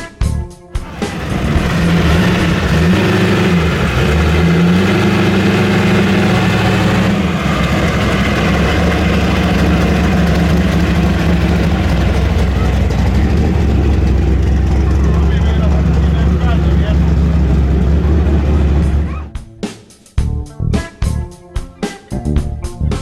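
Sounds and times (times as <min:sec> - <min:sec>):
car engine running at low revs: 0:00.8 - 0:19.4.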